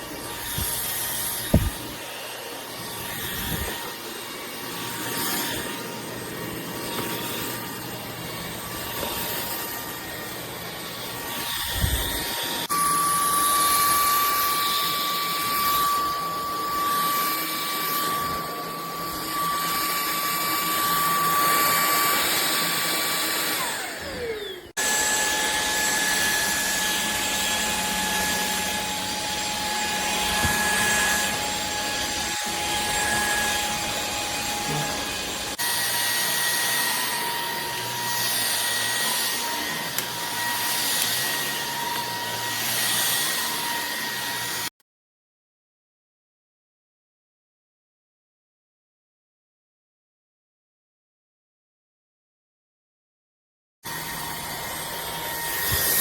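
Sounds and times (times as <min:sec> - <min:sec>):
vacuum motor whine: 0:00.0 - 0:44.7, 0:53.9 - 0:56.0.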